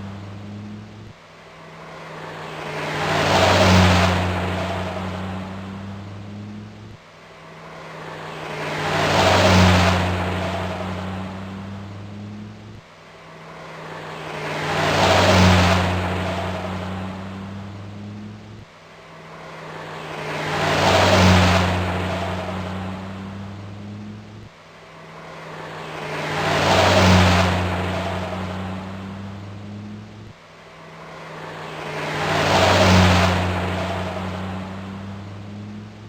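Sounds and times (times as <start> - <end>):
car passing by: 0.0 - 36.0.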